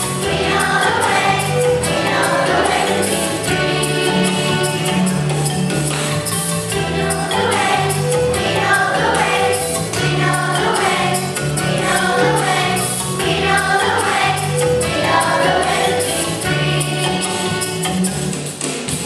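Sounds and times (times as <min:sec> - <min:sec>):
accompaniment with bass line: 0:00.0 - 0:19.0
children singing in unison: 0:00.2 - 0:04.8, 0:06.9 - 0:17.6.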